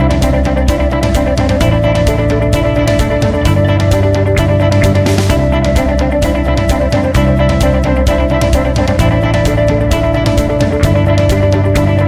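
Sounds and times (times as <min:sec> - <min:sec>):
music with beat and guitar: 0:00.0 - 0:12.0.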